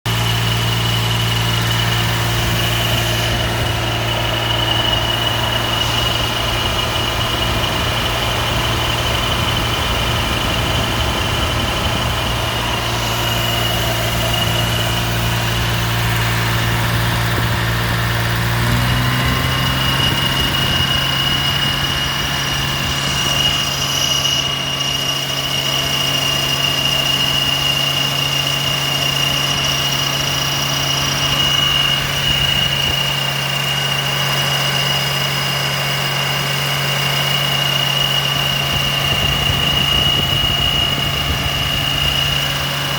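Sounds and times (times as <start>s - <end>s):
engine running at raised revs: 0.0s - 42.9s
high-pitched belt squeal: 0.1s - 42.9s.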